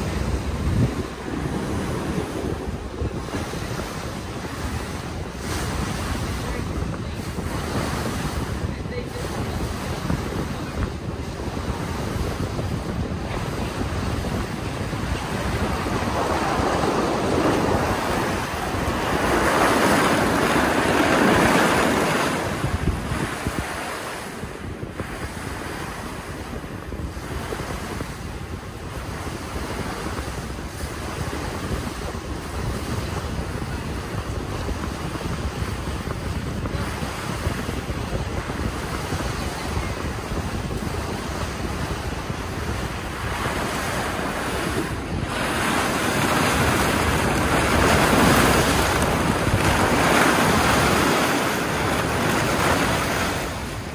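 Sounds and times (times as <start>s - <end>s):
water rushing along ferry: 0.0s - 53.9s
wind buffeting microphone: 0.0s - 53.9s.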